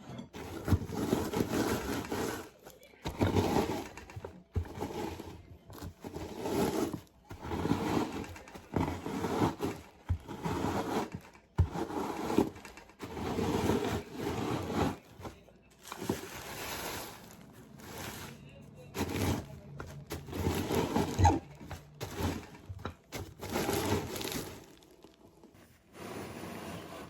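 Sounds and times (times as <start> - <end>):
utensil scraping in mixing bowl: 0.0 - 25.2.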